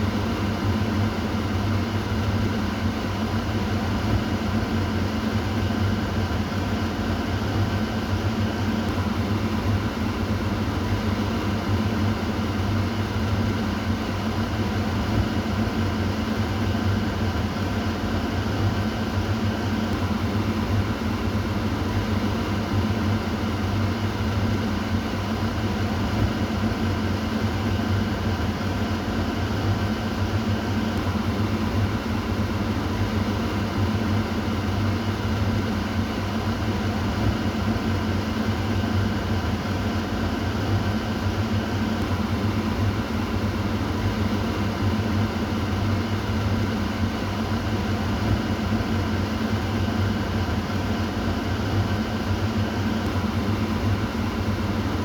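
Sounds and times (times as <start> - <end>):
kitchen exhaust fan running: 0.0 - 55.0.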